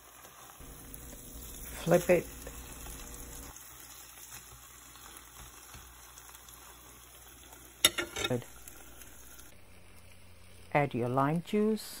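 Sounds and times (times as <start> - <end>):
food sizzling in skillet: 0.0 - 12.0.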